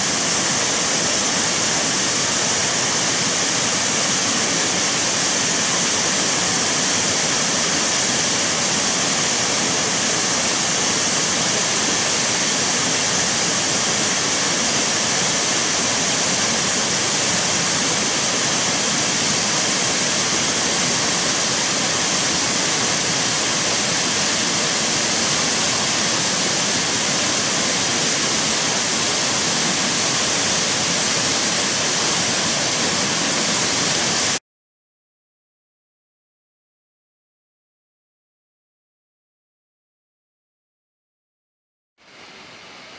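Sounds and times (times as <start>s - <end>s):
waterfall rushing: 0.0s - 34.4s.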